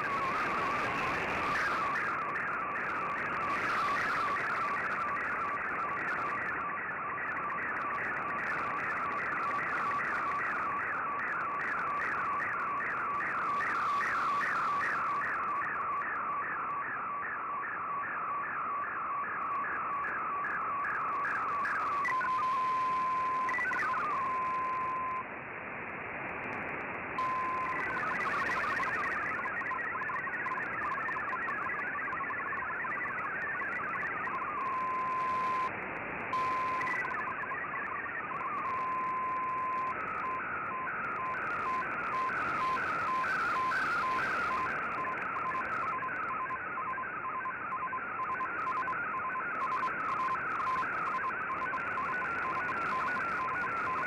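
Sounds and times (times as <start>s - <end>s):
warbling data tones: 0.0s - 25.2s, 27.2s - 35.7s, 36.4s - 54.0s.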